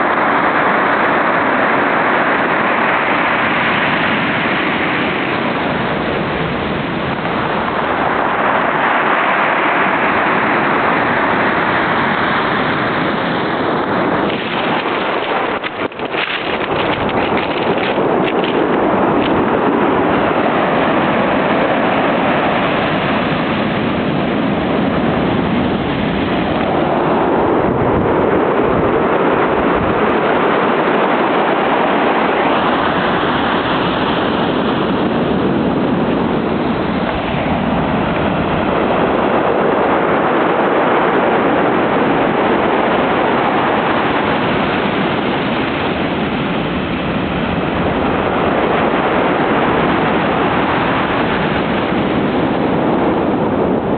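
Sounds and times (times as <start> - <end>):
surf breaking on beach: 0.0 - 53.9
wind buffeting microphone: 0.0 - 53.9.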